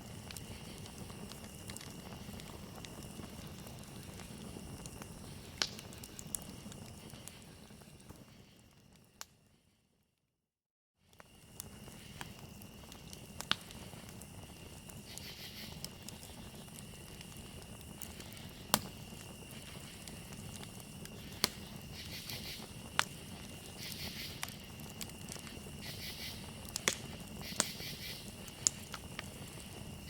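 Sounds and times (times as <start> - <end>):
crickets chirping: 0.0 - 9.5, 11.1 - 30.0
fire popping: 0.0 - 9.5, 11.1 - 30.0
campfire crackling: 0.0 - 9.7, 11.0 - 30.0.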